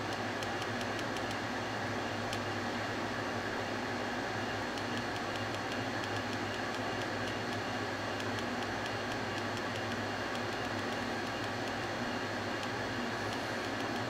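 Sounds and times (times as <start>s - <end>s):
motor humming and hissing: 0.0s - 14.0s.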